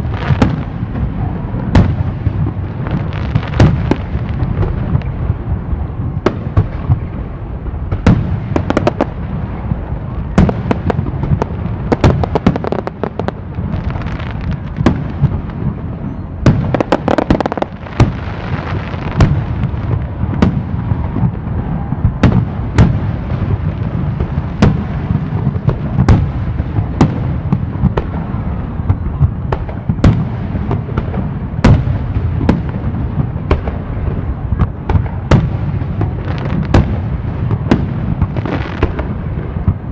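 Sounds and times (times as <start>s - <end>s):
crackling firework bursts: 0.0s - 39.9s
fireworks bursting with bangs: 0.0s - 39.9s.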